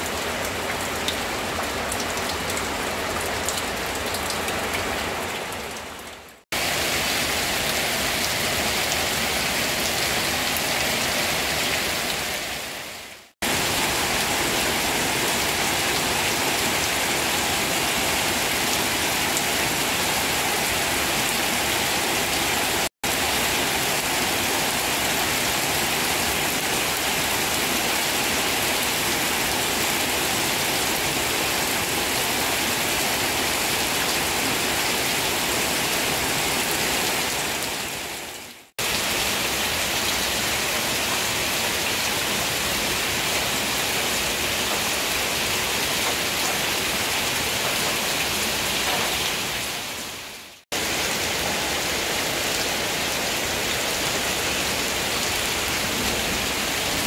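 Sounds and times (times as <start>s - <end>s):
rain falling on leaves and stone: 0.0s - 57.0s.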